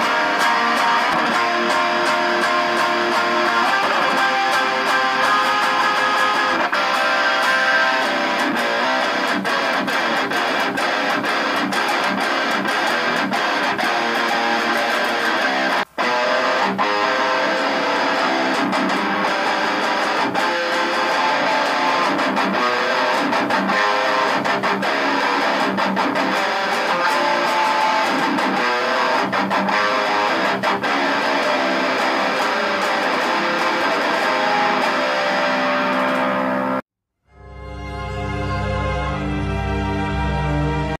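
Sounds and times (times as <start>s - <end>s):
electric guitar riffs and chords: 0.0s - 36.8s.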